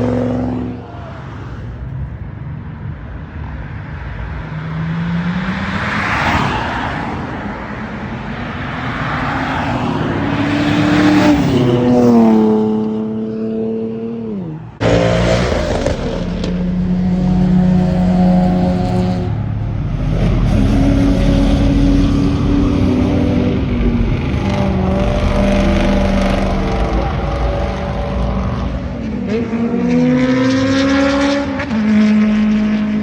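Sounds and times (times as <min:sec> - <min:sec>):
car engines revving and accelerating: 0:00.0 - 0:33.0.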